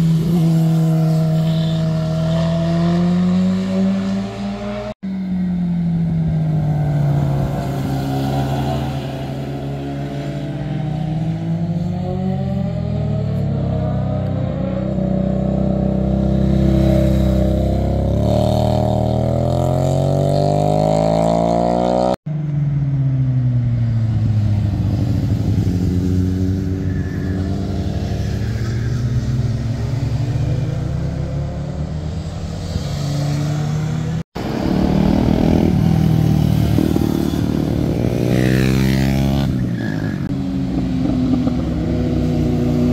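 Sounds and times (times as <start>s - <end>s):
motorcycle engines passing: 0.0s - 42.9s.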